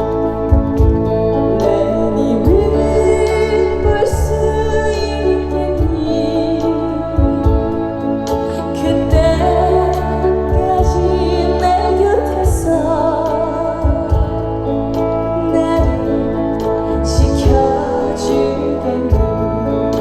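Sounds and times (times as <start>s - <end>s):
amplified accompaniment with low beat: 0.0s - 20.0s
woman singing with vibrato: 0.0s - 20.0s.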